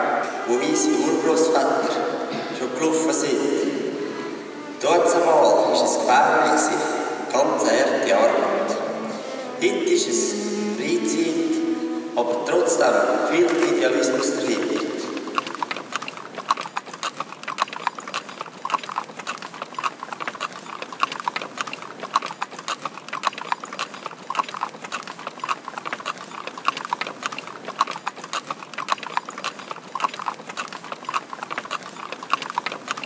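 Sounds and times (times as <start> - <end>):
hooves clip-clopping: 0.0 - 33.0.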